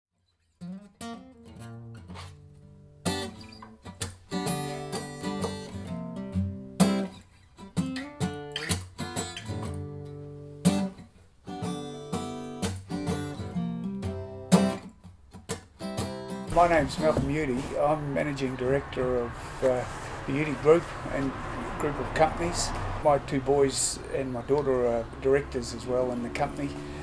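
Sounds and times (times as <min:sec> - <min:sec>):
acoustic guitar music: 0:00.2 - 0:27.0.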